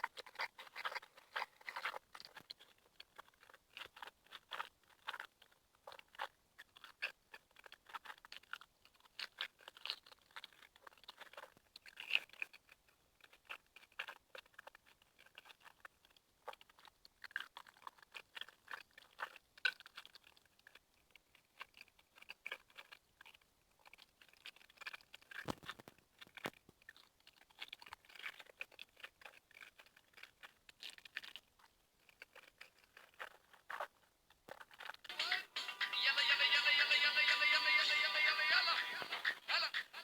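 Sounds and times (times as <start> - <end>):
chewing noodles: 0.0 - 35.2.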